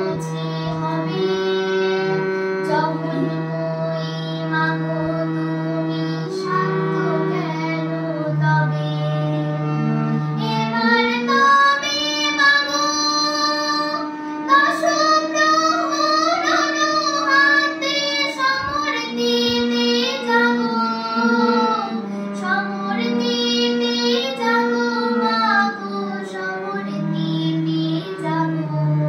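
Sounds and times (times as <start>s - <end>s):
girl singing: 0.0s - 29.0s
harmonium playing steady notes: 0.0s - 29.0s.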